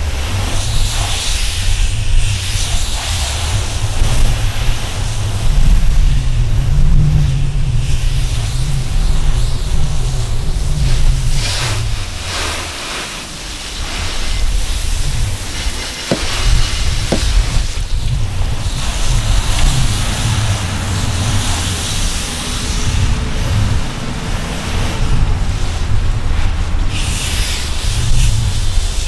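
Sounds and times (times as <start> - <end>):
wind rumble on microphone: 0.0 - 12.5, 16.2 - 29.0
hose water spraying on car: 0.1 - 29.0.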